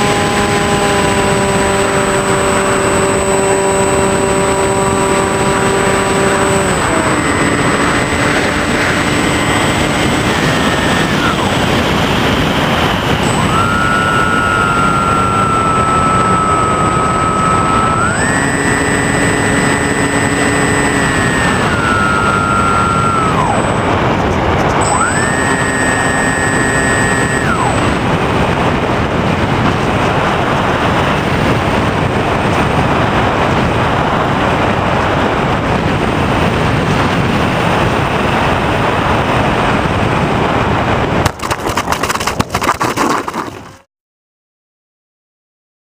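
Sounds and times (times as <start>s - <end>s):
electric motor whine: 0.0s - 43.5s
rush of air noise: 0.0s - 43.8s.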